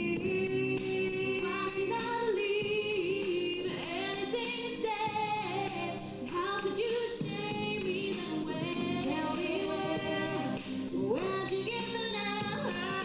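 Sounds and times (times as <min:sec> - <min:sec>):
instrumental backing with beat: 0:00.0 - 0:13.0
woman singing: 0:00.0 - 0:13.0.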